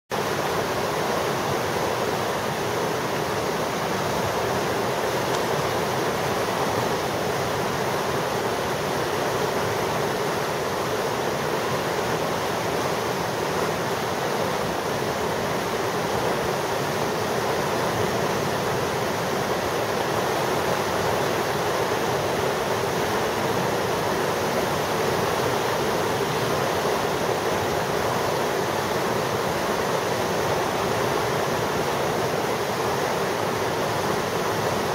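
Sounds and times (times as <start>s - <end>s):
whitewater rapids rushing: 0.1s - 34.9s.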